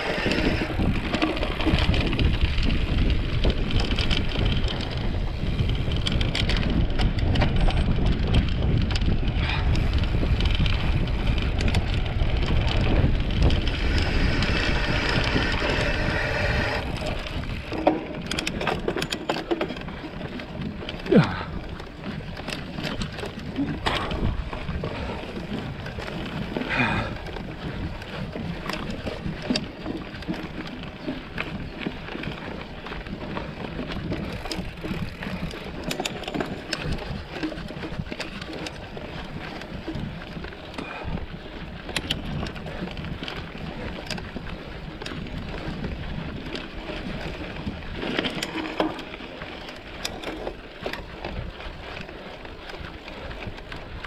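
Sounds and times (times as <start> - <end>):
bike jolts: 0.0 - 54.0
bike rattling and knocking: 0.0 - 54.0
bike tyre and wind noise: 0.0 - 54.0.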